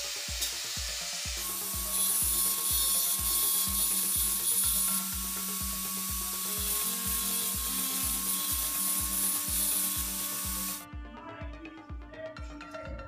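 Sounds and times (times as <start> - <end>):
angle grinder cutting metal: 0.0 - 10.8
background music with steady beat: 0.0 - 13.0.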